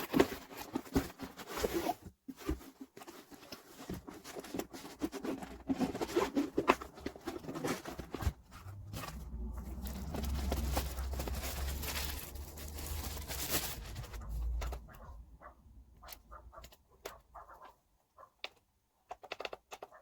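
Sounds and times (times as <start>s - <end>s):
rustling handling noise: 0.0s - 20.0s.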